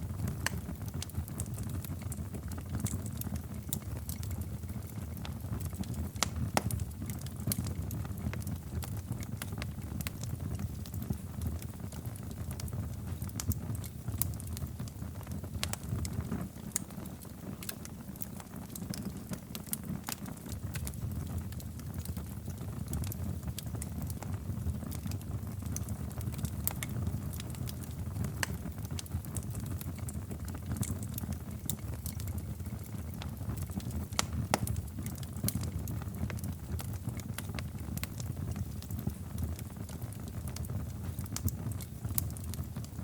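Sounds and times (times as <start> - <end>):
low rumble of burning logs: 0.0 - 43.0
wood fire crackling and popping: 0.0 - 43.0.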